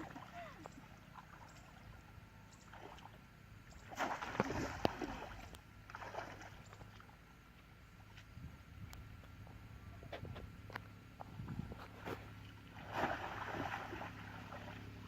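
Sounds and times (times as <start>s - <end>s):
water splashing and sloshing: 0.0s - 8.1s, 10.7s - 15.0s
low steady hum: 0.0s - 15.0s.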